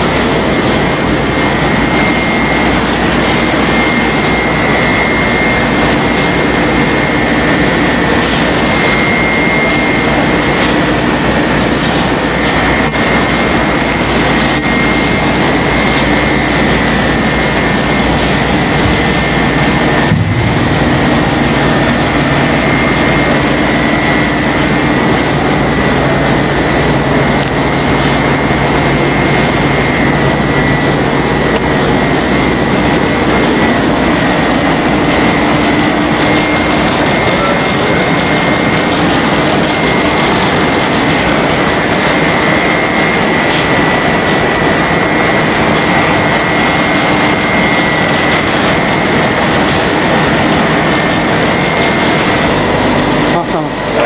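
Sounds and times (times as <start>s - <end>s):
high-pitched whine: 0.0s - 54.0s
machinery roar: 0.0s - 54.0s.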